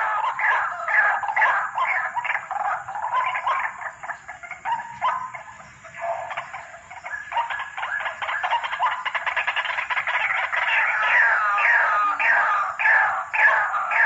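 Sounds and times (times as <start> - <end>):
waterhen calling harsh repeated notes: 0.0 - 14.0.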